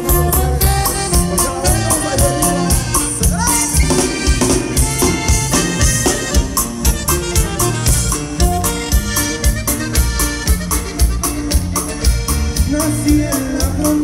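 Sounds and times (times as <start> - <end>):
live band with saxophone and accordion: 0.0 - 14.0.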